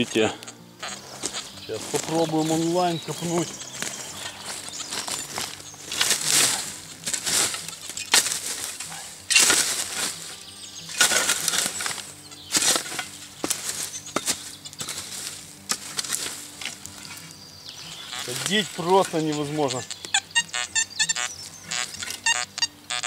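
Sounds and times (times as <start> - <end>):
shovel digging in soil: 0.0 - 17.4, 18.0 - 20.3, 21.0 - 22.4.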